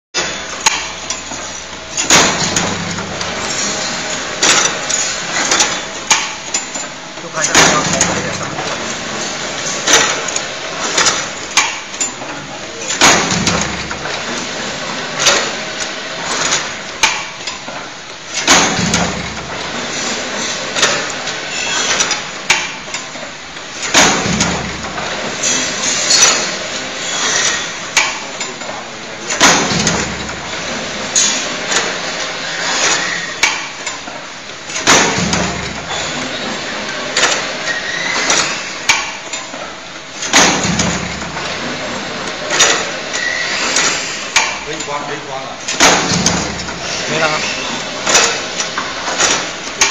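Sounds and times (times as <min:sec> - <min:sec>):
heavy machine clank: 0:00.2 - 0:49.9
machine clanking and clicking: 0:00.2 - 0:49.9.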